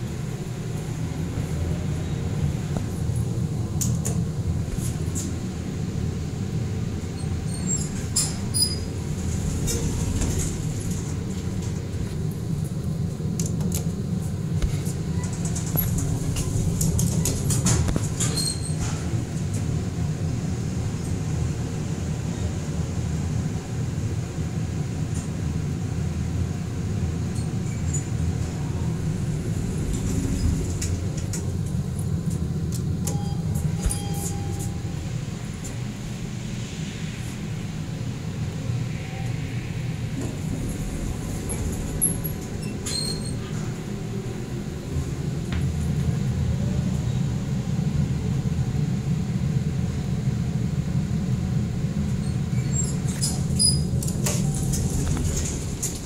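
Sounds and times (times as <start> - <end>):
elevator cab rumble: 0.0 - 56.0.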